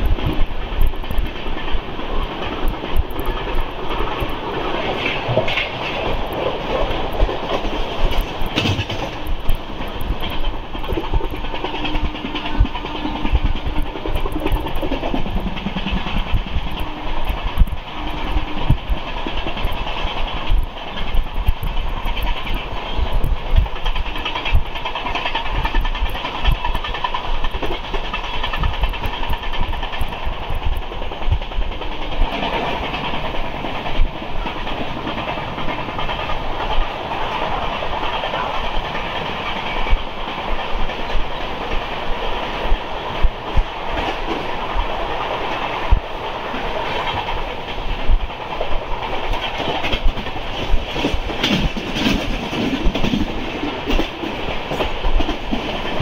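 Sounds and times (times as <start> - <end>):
train wheel rumble: 0.0 - 56.0
wheels clacking over rail joints: 0.0 - 56.0
wind rushing: 0.0 - 56.0.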